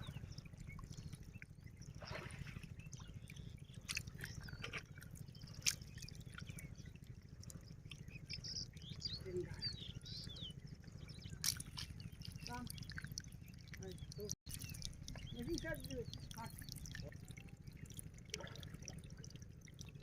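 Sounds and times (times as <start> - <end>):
water splashing and dripping: 0.0 - 9.4, 11.3 - 20.0
steady low hum: 0.0 - 20.0.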